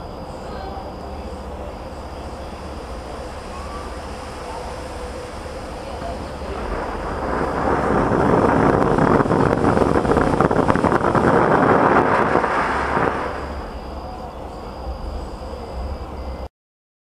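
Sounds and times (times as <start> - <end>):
firework fountain hissing and crackling: 0.0 - 15.9.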